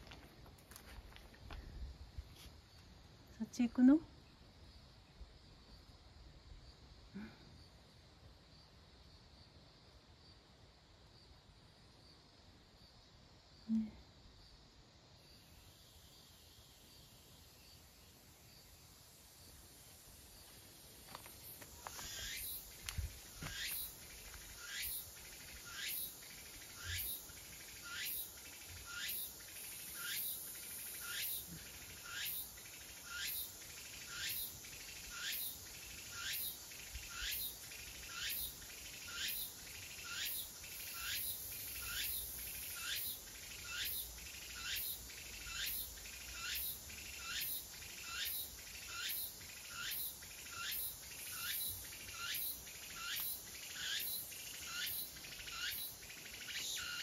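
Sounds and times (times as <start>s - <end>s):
insect calling: 0.0s - 57.0s.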